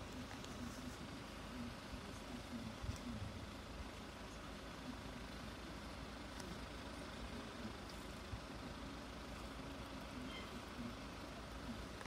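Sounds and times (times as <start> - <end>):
distant road traffic rumble: 0.0 - 12.0
engine idling: 0.0 - 12.0.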